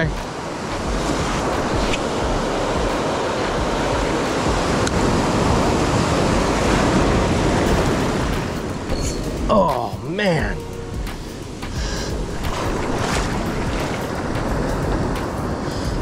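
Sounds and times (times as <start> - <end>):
ocean waves breaking on sand: 0.0 - 10.4, 11.0 - 16.0.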